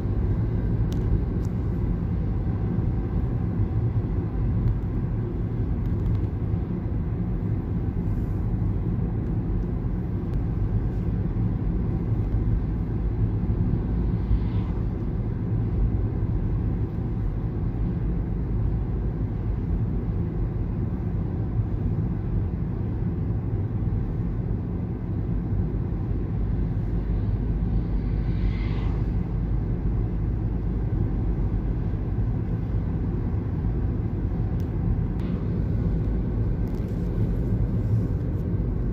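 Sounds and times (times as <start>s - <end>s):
vehicle rumble from inside: 0.0s - 38.9s.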